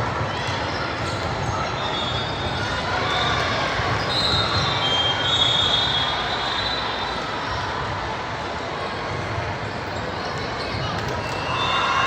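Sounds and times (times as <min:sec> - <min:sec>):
court noise: 0:00.0 - 0:12.0
hum of crowd voices: 0:00.0 - 0:12.0.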